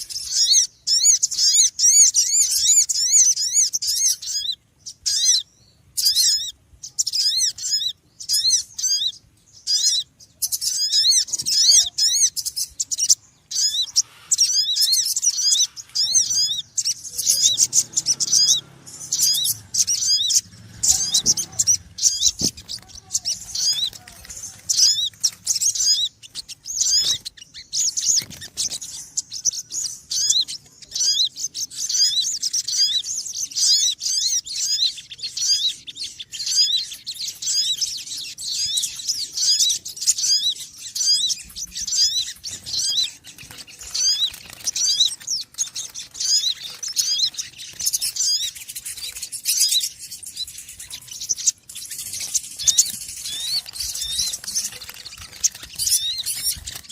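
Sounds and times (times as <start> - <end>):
small bird chirping: 0.0 - 56.9.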